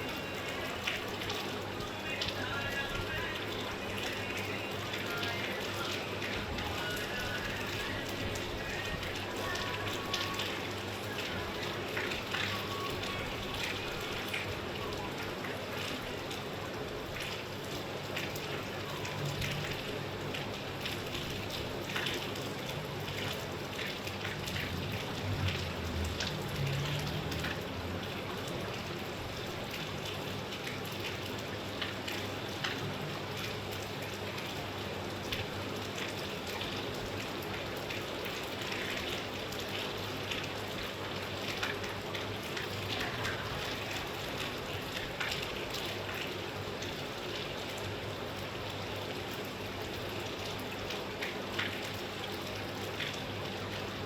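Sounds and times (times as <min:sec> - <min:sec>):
raindrop impacts: 0:00.0 - 0:54.0
steady rainfall: 0:00.0 - 0:54.0.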